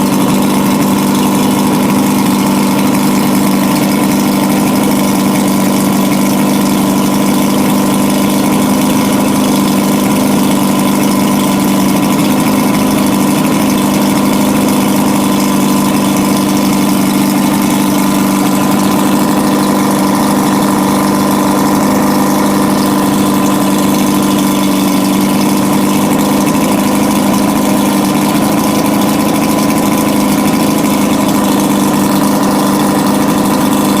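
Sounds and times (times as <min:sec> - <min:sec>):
outboard motor idling: 0:00.0 - 0:34.0.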